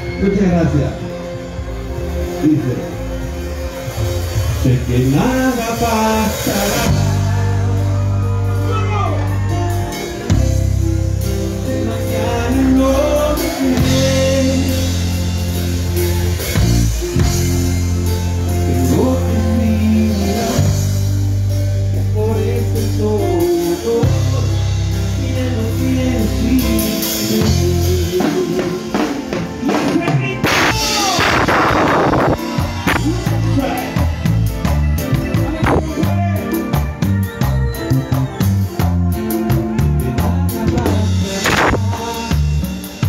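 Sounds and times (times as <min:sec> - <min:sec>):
drum kit: 0:00.0 - 0:43.0
held bass notes: 0:00.0 - 0:43.0
live band playing: 0:00.0 - 0:43.0.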